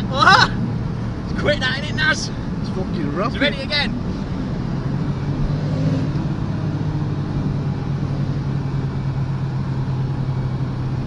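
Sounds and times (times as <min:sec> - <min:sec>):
car engine droning: 0:00.0 - 0:11.0
road and wind noise: 0:00.0 - 0:11.0.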